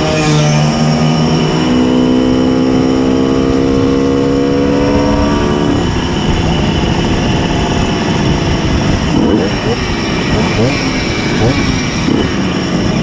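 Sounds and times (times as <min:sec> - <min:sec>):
two-stroke moped engine running hard: 0:00.0 - 0:13.0.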